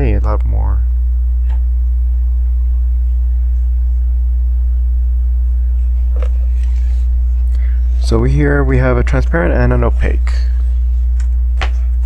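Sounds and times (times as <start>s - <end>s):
faint steady tones: 0.0s - 12.0s
low electrical hum: 0.0s - 12.0s.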